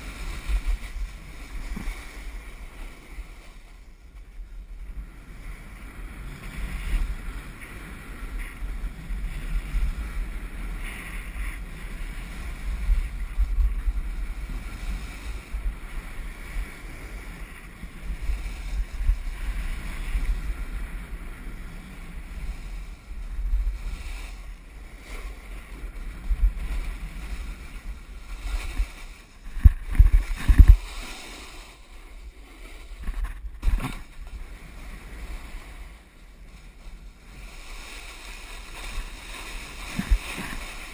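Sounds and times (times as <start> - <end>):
snowboard sliding on snow: 0.0 - 40.9
wind buffeting microphone: 0.0 - 40.9.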